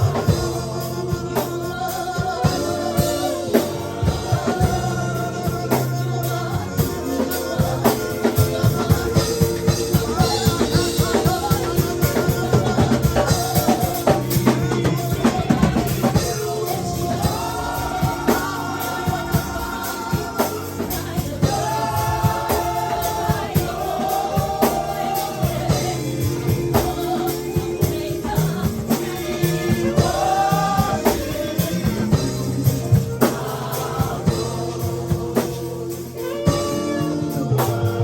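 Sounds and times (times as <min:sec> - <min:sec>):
keyboard chords: 0:00.0 - 0:38.0
steady drum beat: 0:00.0 - 0:38.0.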